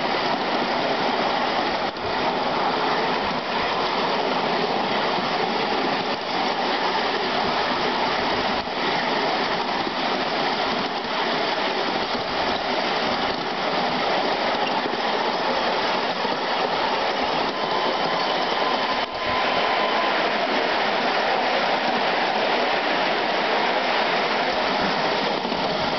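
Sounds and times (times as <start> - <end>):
miniature train wheels rolling on rails: 0.0 - 25.9.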